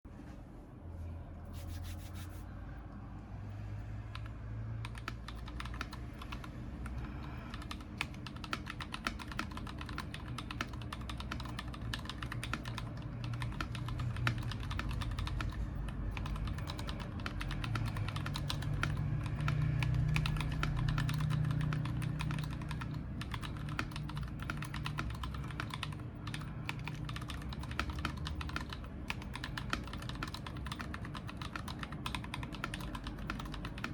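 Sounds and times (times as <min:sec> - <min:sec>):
low background hum: 0:00.1 - 0:33.9
mechanical keyboard typing: 0:04.1 - 0:33.9.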